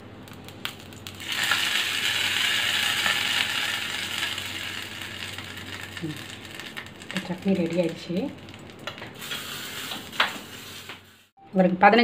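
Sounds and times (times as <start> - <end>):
hot oil sizzling: 0.0 - 11.4.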